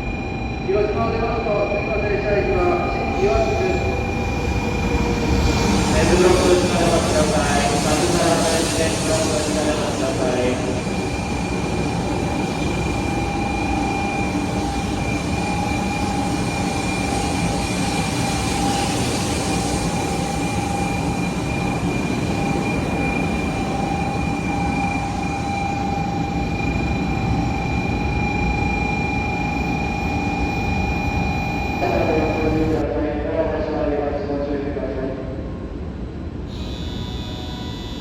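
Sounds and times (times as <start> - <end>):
train rumbling with high whine: 0.0 - 38.0.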